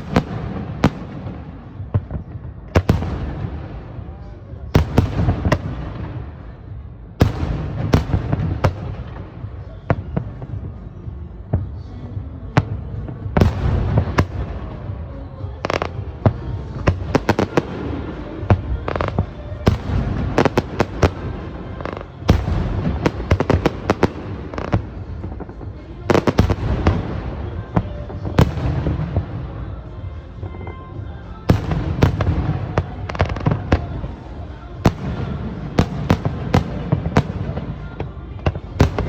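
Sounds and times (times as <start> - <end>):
fireworks booming and cracking: 0.0 - 39.0
rapid fireworks crackling: 0.0 - 39.0.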